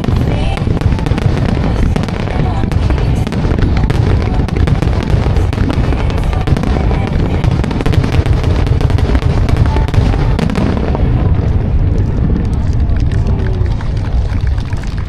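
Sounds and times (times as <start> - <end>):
music: 0.0 - 13.2
fireworks booming: 0.0 - 15.0
fireworks crackling: 0.0 - 15.0.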